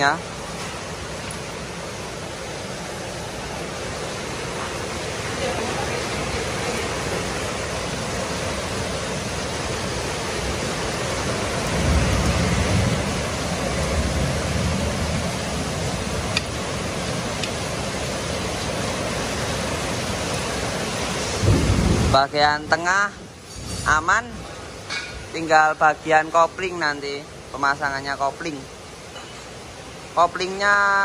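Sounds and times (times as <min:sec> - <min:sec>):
rushing hiss of background noise: 0:00.0 - 0:31.0.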